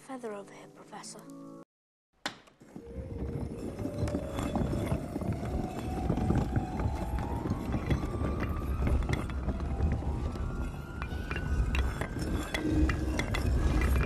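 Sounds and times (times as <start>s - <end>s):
bricks clicking and knocking: 2.3s - 14.0s
grinding stone rumble: 2.6s - 14.0s.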